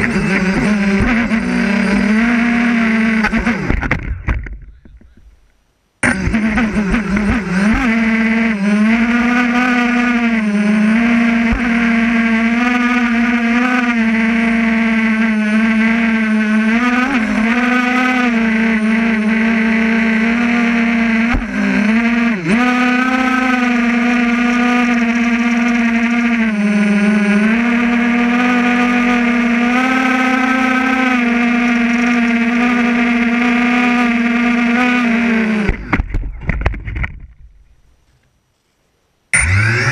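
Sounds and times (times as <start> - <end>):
drone propellers whining: 0.0 - 5.3, 6.0 - 37.1, 39.4 - 39.9.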